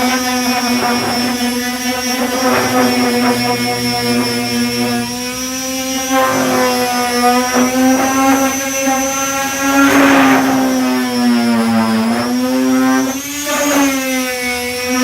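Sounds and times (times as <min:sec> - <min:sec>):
power sander whining: 0:00.0 - 0:15.0
sander rasping strokes: 0:00.0 - 0:15.0.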